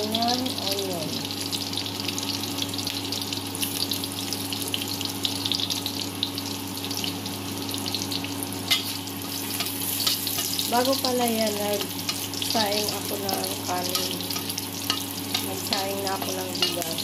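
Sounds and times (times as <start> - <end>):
onion sizzling in hot oil: 0.0 - 17.0
steady low hum: 0.0 - 17.0.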